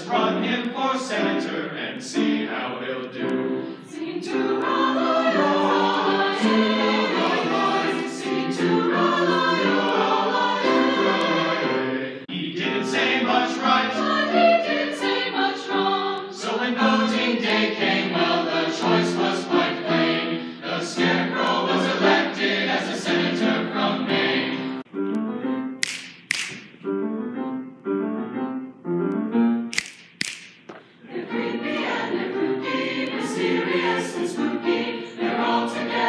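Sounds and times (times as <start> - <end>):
mixed choir singing in harmony: 0.0 - 24.9, 31.0 - 36.0.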